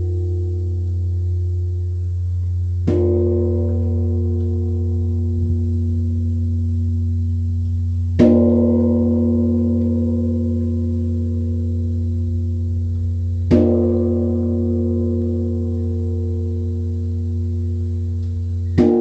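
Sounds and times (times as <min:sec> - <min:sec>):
deep bell hum: 0:00.0 - 0:19.0
large bronze bell ringing: 0:00.0 - 0:19.0.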